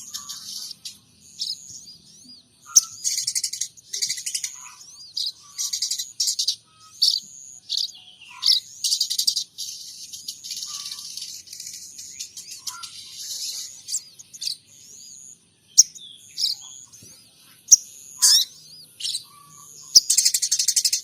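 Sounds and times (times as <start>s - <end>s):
songbird singing trills and chirps: 0.0s - 21.0s.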